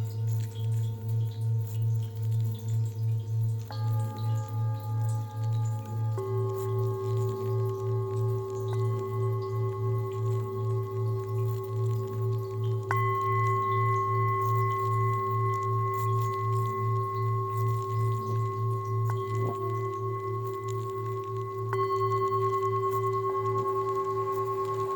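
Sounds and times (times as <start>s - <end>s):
singing bowls ringing: 0.0s - 24.9s
singing bowl struck: 3.7s - 24.9s.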